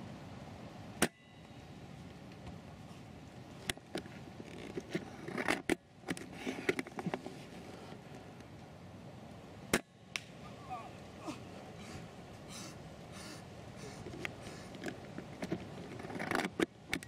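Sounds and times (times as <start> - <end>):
crackling rustle: 0.0 - 17.0.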